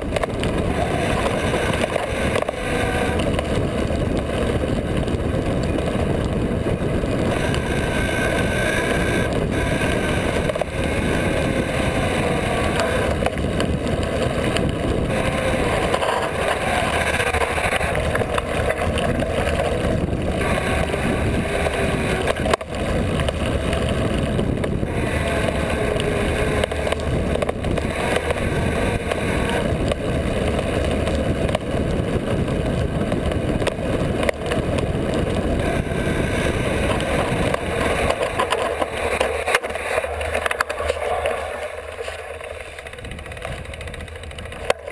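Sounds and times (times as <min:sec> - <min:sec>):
bike tyre rumble: 0:00.0 - 0:44.9.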